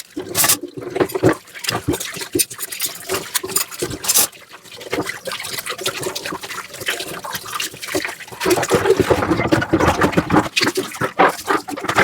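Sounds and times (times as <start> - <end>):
water splashing in sink: 0.0 - 12.0.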